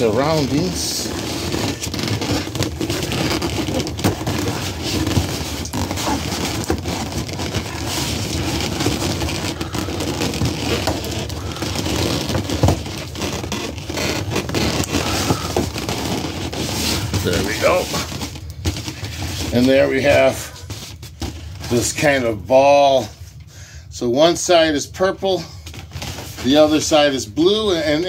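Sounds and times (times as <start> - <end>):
balloons rubbing: 0.0 - 23.5, 24.4 - 28.0.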